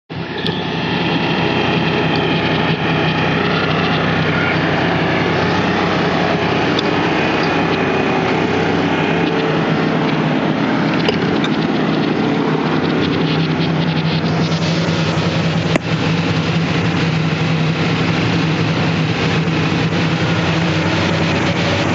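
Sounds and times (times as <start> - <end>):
excavator diesel engine running: 0.1 - 21.9.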